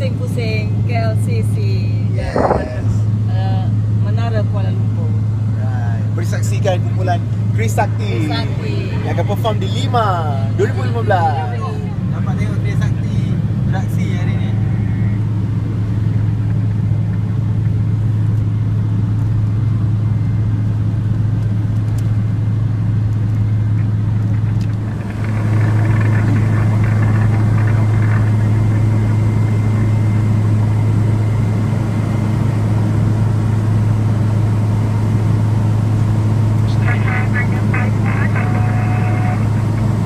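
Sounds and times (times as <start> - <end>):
aircraft engine drone: 1.9 - 40.0.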